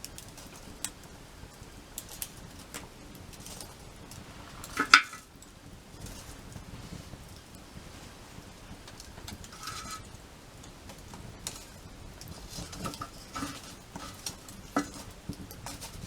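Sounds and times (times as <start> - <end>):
low steady hiss: 0.0 - 16.0
wood fire crackling and popping: 0.0 - 16.0.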